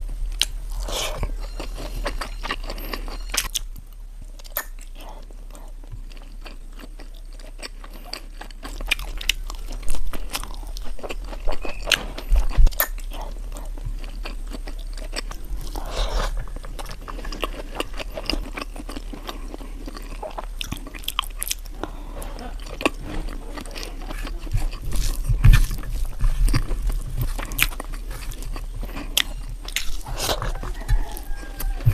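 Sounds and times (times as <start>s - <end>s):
low steady hum: 0.0s - 31.9s
person chewing and crunching: 0.0s - 31.9s.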